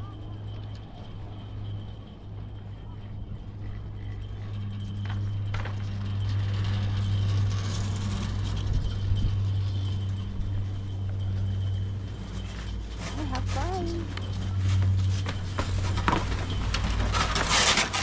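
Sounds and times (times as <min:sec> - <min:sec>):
chairlift mechanical hum: 0:00.0 - 0:18.0.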